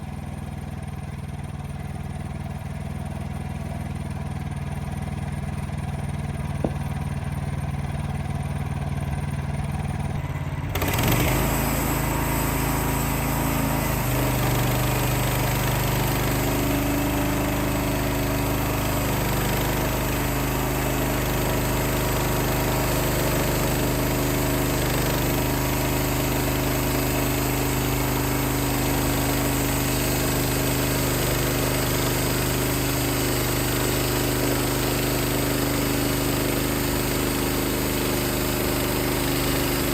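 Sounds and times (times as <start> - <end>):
engine idling and revving: 0.0 - 39.9.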